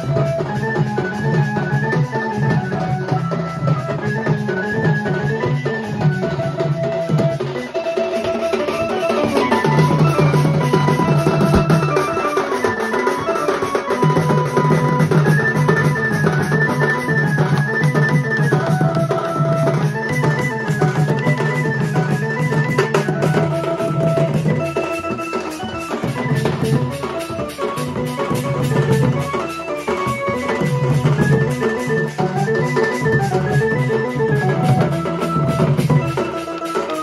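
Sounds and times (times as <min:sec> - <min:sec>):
barrel drums beating: 0:00.0 - 0:37.0.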